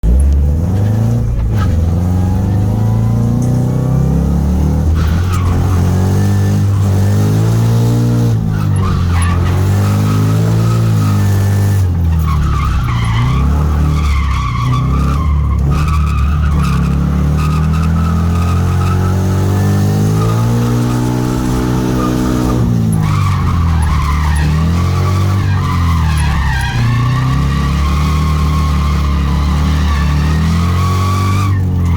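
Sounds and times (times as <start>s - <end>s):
car engine at high revs: 0.0s - 31.9s
tyres skidding and squealing: 0.0s - 31.9s.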